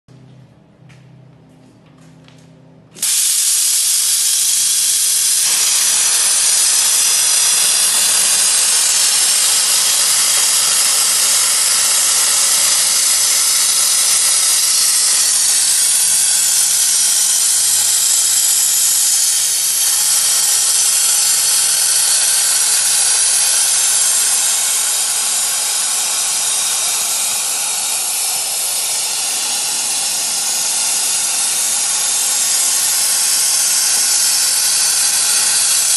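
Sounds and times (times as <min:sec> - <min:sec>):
plasma torch hissing: 0:03.0 - 0:35.9.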